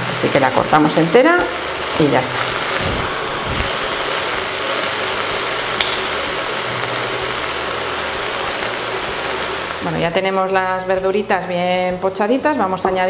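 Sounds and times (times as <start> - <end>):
vegetables sizzling in oil: 0.0 - 11.7.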